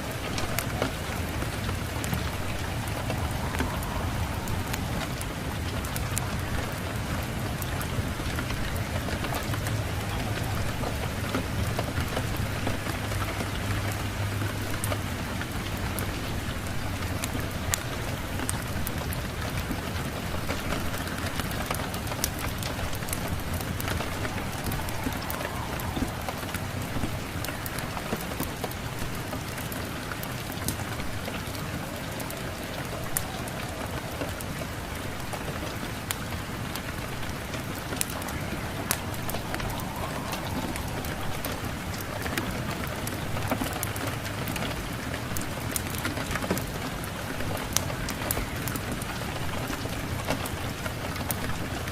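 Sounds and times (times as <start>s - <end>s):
steady rain: 0.0s - 51.9s
wood fire crackling: 0.0s - 51.9s.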